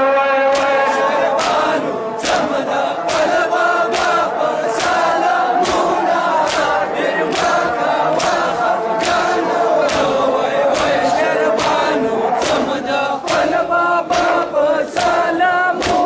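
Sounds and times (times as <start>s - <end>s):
crowd chanting in unison: 0.0s - 16.0s
chest-beating slaps: 0.5s - 16.0s.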